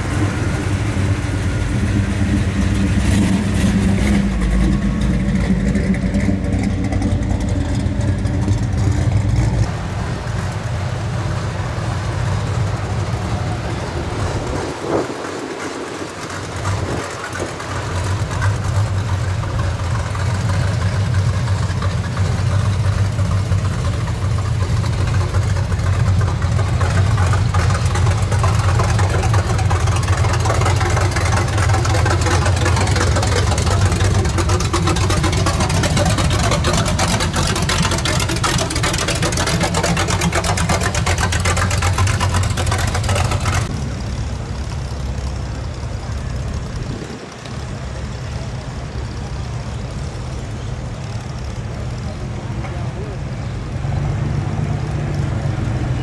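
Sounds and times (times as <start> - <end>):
car engines cruising: 0.0 - 56.0
pickup truck exhaust passing: 0.0 - 56.0.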